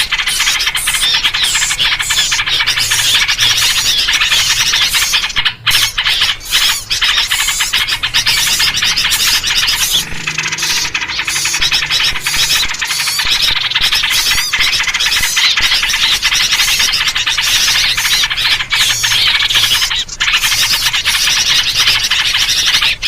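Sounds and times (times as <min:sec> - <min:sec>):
many small birds chattering: 0:00.0 - 0:23.0.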